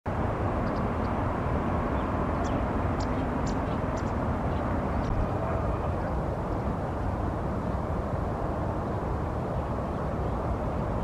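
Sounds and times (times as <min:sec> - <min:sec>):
distant traffic rumble: 0:00.1 - 0:11.0.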